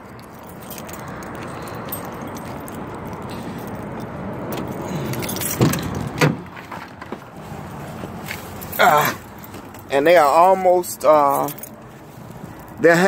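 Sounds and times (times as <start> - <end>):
keys jangling: 0.0 - 6.2, 8.3 - 12.9.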